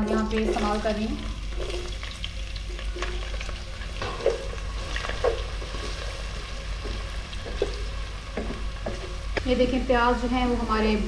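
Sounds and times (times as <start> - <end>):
onions sizzling in a pan: 0.0 - 11.0
wooden spatula stirring: 0.3 - 9.5.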